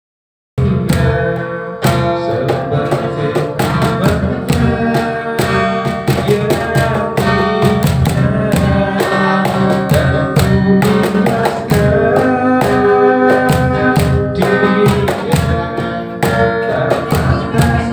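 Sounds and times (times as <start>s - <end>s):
acoustic guitar song with beat: 0.6s - 17.9s.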